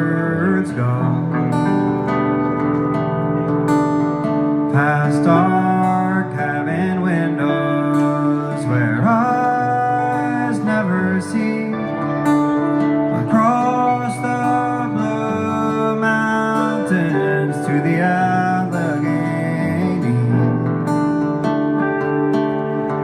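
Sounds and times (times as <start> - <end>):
person singing: 0.0 - 2.6, 4.6 - 21.0
guitars playing: 0.0 - 23.0.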